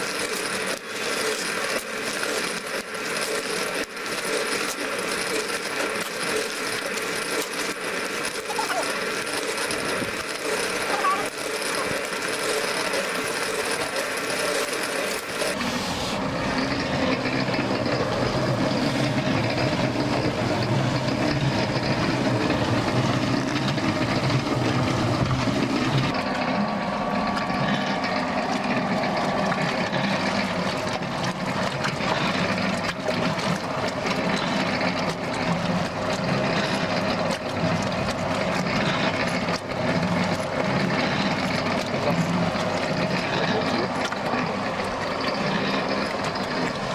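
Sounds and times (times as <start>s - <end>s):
concrete mixer humming: 0.0s - 46.9s.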